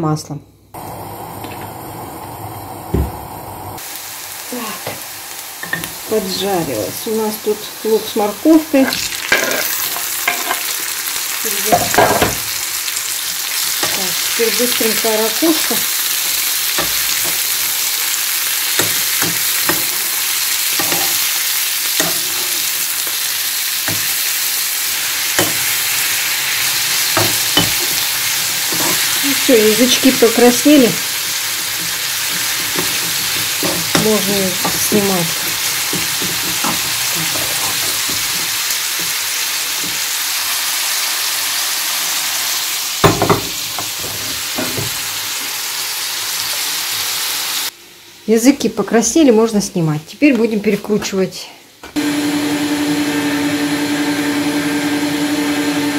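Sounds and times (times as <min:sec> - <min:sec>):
food sizzling in a frying pan: 0:00.8 - 0:55.9.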